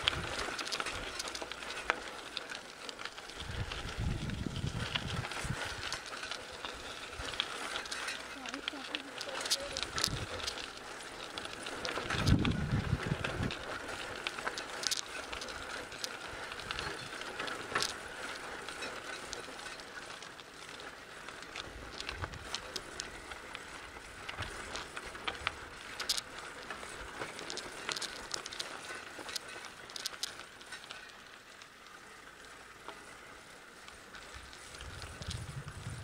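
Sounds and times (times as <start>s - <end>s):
bike tyres on dirt: 0.0s - 36.0s
clicks and rattles of bike and stones: 0.0s - 36.0s.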